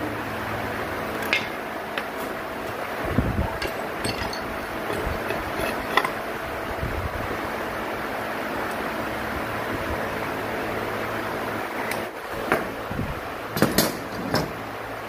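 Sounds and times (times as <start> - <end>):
steady noisy hum: 0.0 - 15.0.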